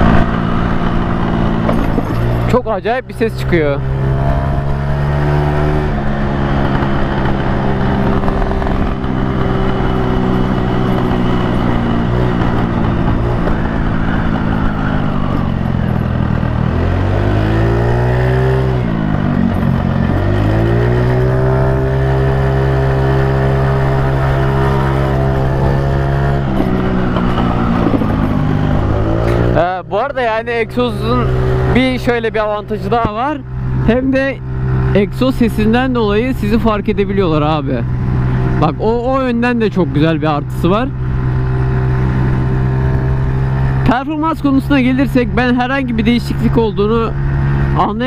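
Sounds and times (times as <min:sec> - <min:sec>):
scooter engine revving: 0:00.0 - 0:48.0.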